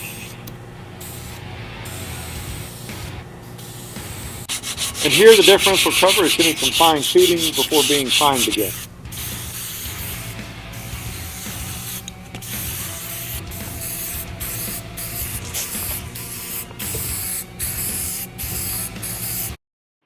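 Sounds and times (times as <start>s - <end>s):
paint spray hissing: 0.0s - 19.6s.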